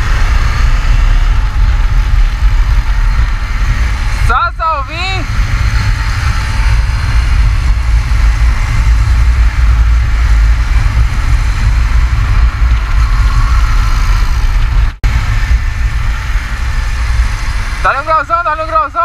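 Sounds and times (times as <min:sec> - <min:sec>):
motorcycles humming: 0:00.0 - 0:19.0
wind buffeting microphone: 0:00.0 - 0:19.0.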